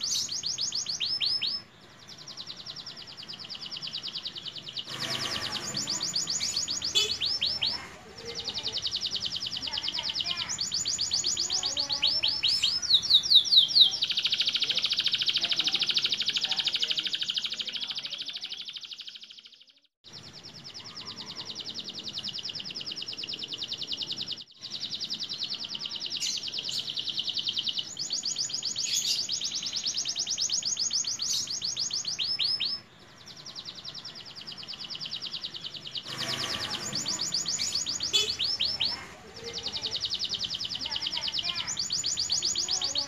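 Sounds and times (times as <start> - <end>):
canary singing fast trills: 0.0 - 43.0.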